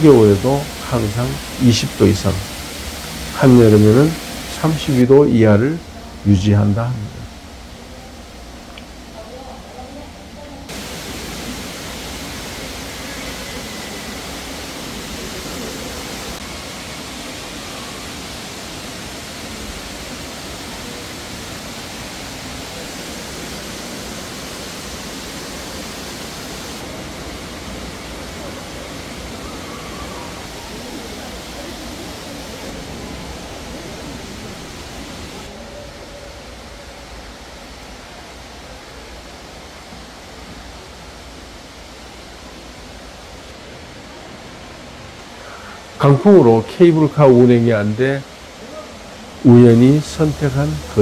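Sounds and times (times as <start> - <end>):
indoor waterfall rushing: 0.0 - 51.0.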